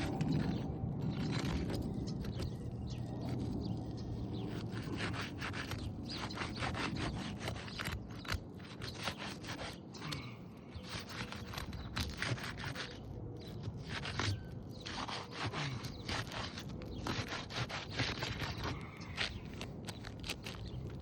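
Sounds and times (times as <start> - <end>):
tool scraping under roof shingles: 0.0 - 21.0.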